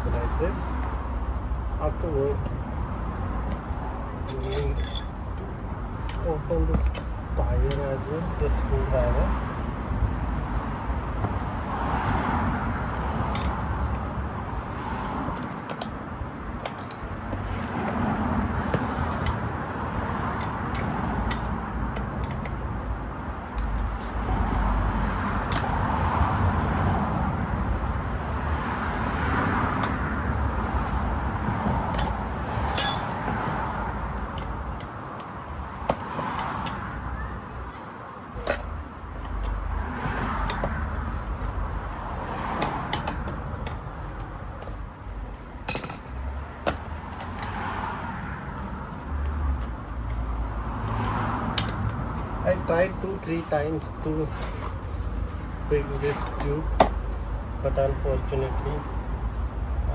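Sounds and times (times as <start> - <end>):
outdoor background rumble: 0.0 - 59.9.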